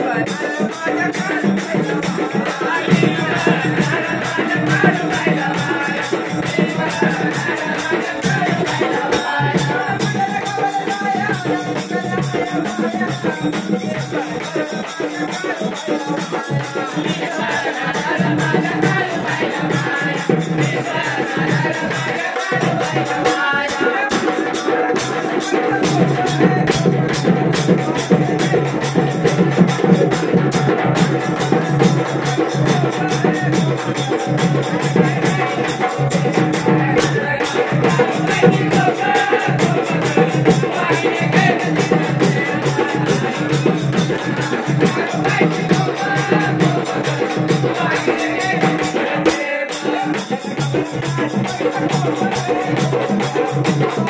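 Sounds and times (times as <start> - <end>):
woman singing: 0.0 - 29.0, 34.6 - 54.0.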